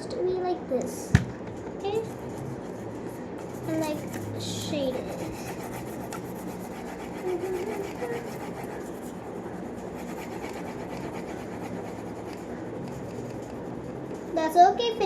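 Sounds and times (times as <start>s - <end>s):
pencil scratching on paper: 1.9s - 14.3s.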